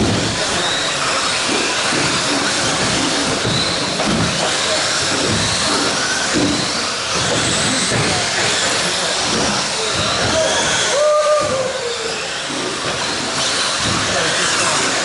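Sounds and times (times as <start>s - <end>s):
rc truck motor whines: 0.0s - 15.0s.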